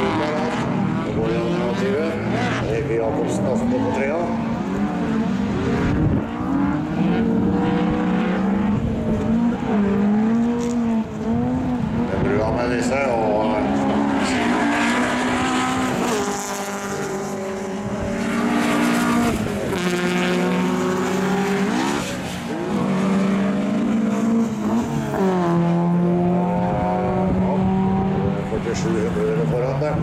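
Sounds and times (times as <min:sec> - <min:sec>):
race car engines at full throttle: 0:00.0 - 0:30.0.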